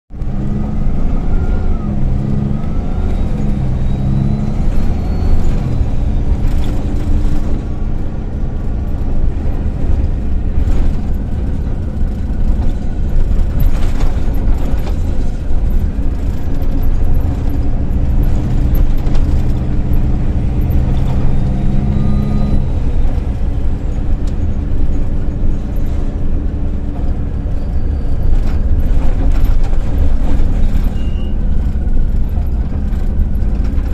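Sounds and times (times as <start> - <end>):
bus diesel engine: 0.1 - 33.9
road rumble: 0.1 - 33.9.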